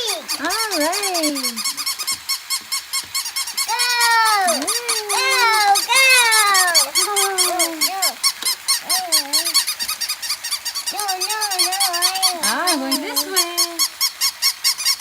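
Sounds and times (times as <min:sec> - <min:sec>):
fast steady ticking: 0:00.0 - 0:15.0
puppy whining and yipping: 0:01.8 - 0:14.3.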